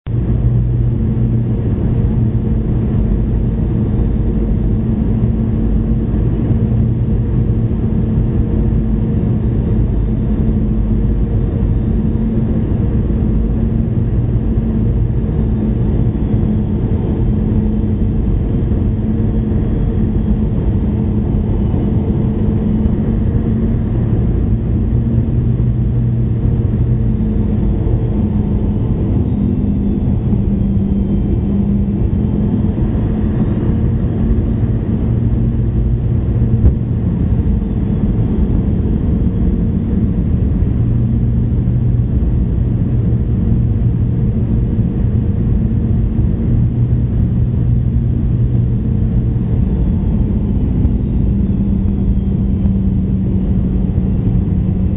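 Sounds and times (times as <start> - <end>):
jet engine drone in cabin: 0.0 - 54.9
low hums: 0.0 - 54.9.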